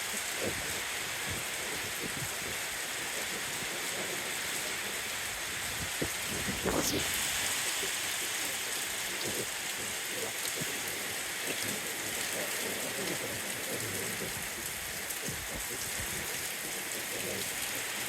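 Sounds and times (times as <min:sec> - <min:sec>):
rain pattering on surfaces: 0:00.0 - 0:18.0
raindrop ticks: 0:00.0 - 0:18.0.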